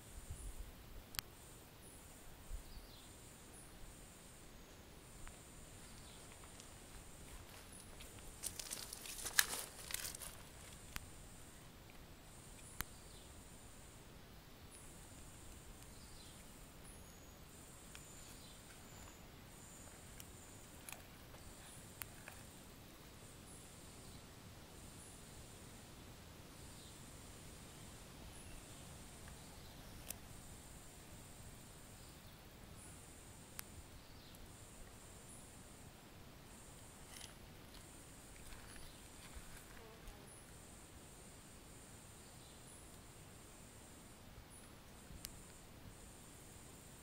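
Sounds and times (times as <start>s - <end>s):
faint high insect buzz: 0.0s - 47.0s.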